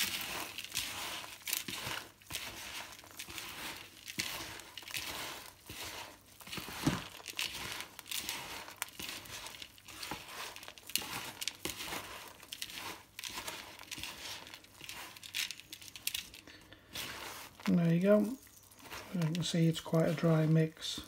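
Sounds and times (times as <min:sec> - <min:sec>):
hand mixing dry food in plastic tub: 0:00.0 - 0:21.0.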